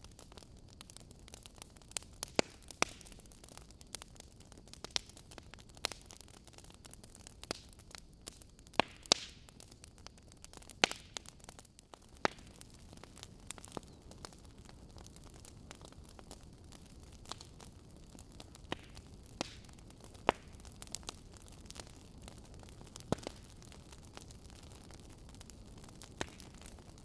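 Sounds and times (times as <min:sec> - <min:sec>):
soft steady hiss: 0:00.0 - 0:27.0
wood fire crackling and popping: 0:00.0 - 0:27.0.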